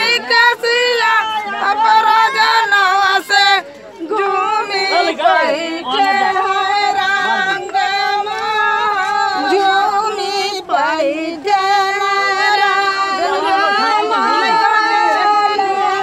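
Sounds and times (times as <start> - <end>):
women singing: 0.0 - 16.0.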